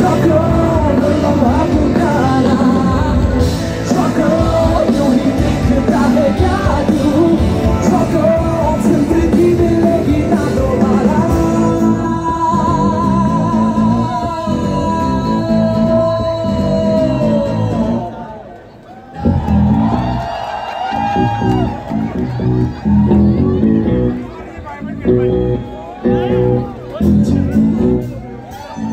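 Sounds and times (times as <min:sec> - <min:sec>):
live rock band playing: 0:00.0 - 0:18.4, 0:20.9 - 0:28.9.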